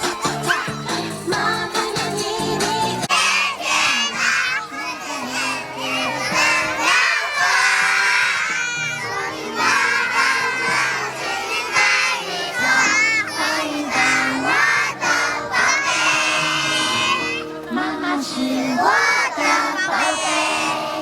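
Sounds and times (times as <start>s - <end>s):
children shouting and singing: 0.0s - 21.0s
music playing: 0.0s - 21.0s.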